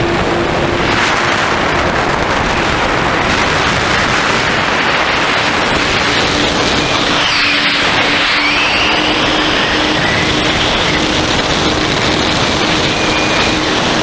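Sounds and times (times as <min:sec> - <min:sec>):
motor and propeller hum: 0:00.0 - 0:14.0
rush of air: 0:00.0 - 0:14.0.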